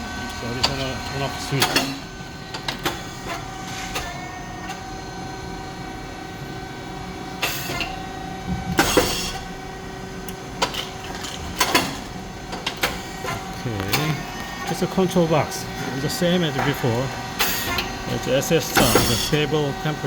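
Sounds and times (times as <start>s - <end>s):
machine humming and whining: 0.0s - 20.0s.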